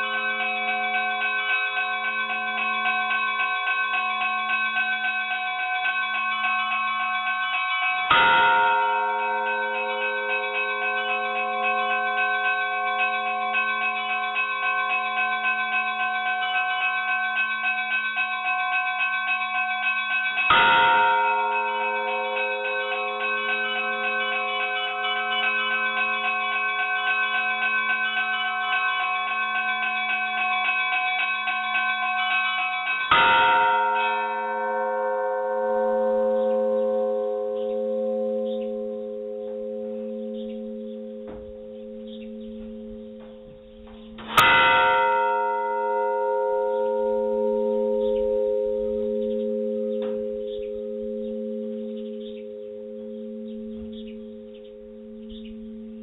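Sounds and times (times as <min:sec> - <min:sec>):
large church bell ringing: 0:00.0 - 0:56.0.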